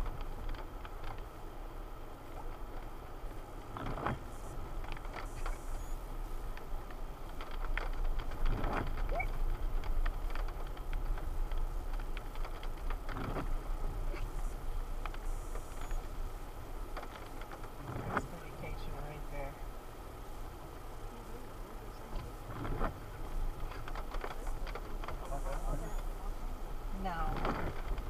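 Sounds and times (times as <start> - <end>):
car cabin rumble: 0.0 - 28.0.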